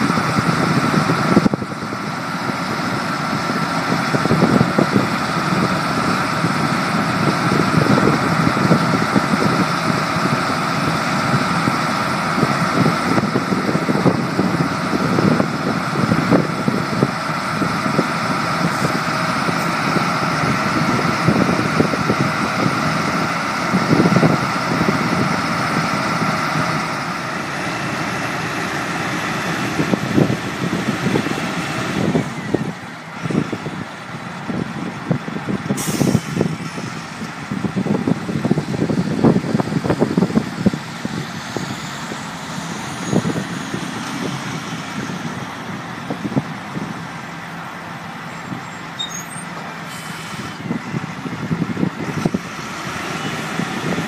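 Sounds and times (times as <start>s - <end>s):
diesel engine and conveyors running: 0.0s - 54.0s.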